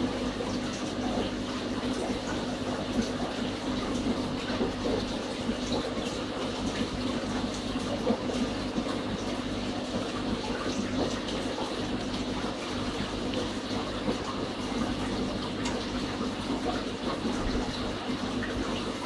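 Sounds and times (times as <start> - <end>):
water trickling and bubbling: 0.0 - 19.0.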